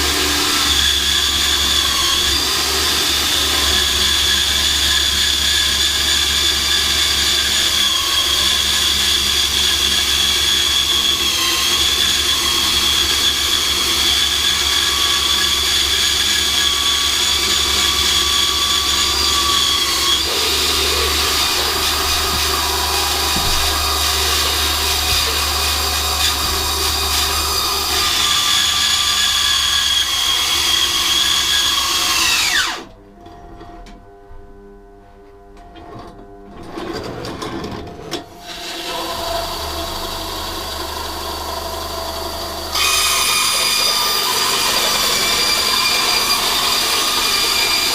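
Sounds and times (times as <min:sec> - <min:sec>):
band saw motor whine: 0:00.0 - 0:33.0, 0:38.1 - 0:47.9.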